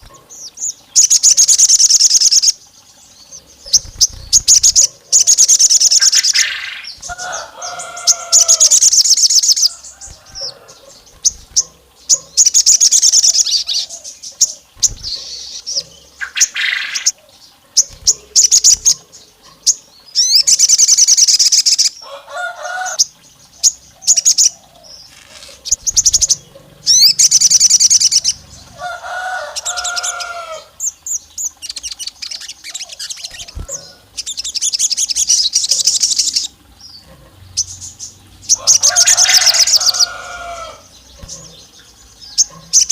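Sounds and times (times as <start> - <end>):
sunbird high-pitched trills: 0.0 - 22.1, 22.9 - 42.9
lower harsh bird calls: 0.0 - 42.9.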